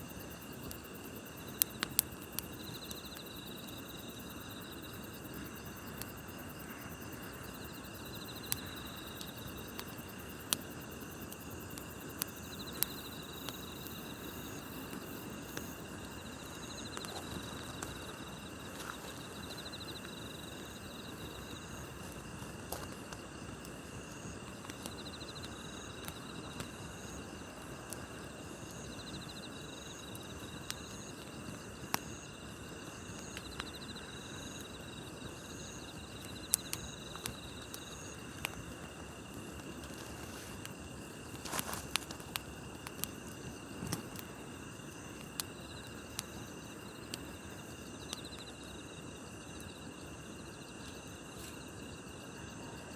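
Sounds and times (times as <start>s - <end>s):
campfire crackling and popping: 0.0s - 49.7s
night insects chirping: 0.0s - 52.9s.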